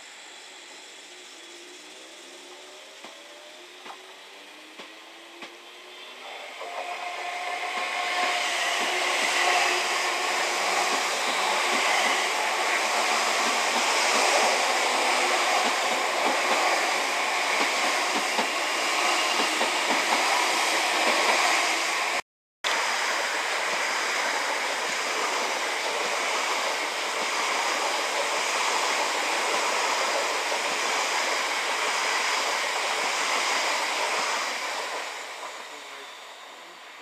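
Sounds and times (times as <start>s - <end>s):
train passing: 0.0s - 37.0s.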